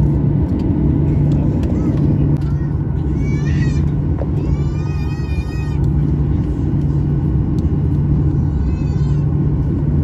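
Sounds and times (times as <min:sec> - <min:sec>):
airplane cabin rumble and hum: 0:00.0 - 0:10.0.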